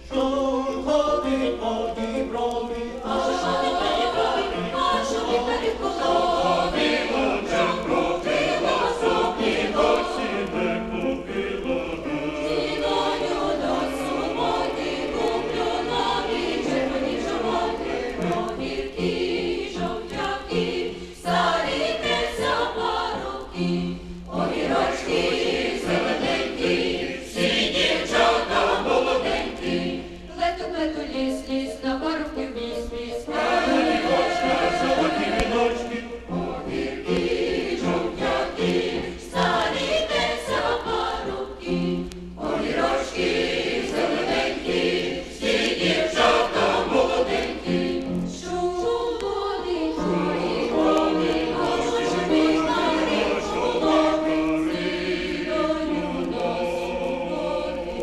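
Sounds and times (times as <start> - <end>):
choir singing in full chords: 0.0 - 58.0.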